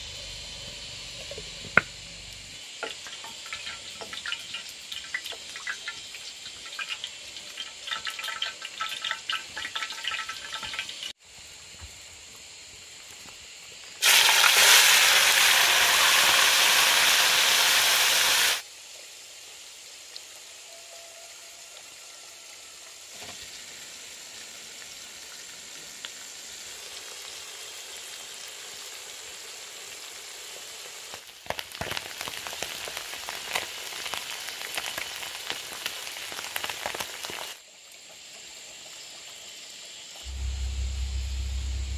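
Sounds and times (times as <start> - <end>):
oil sizzling and crackling: 0.0 - 11.6, 12.4 - 41.9.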